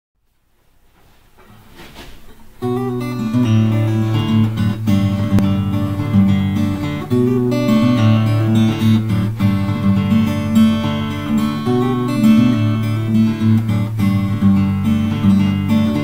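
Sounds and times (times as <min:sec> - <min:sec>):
acoustic guitar strumming: 0:01.4 - 0:16.0.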